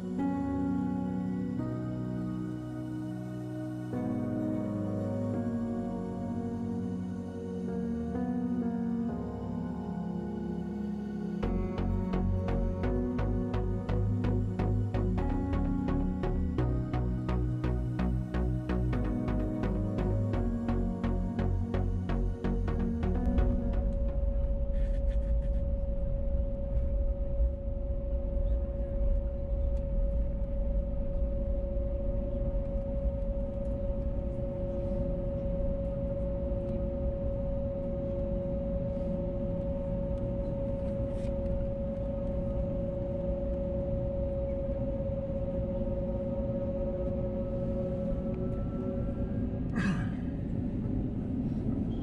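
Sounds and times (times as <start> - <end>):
constant hum tone: 0.0 - 52.0.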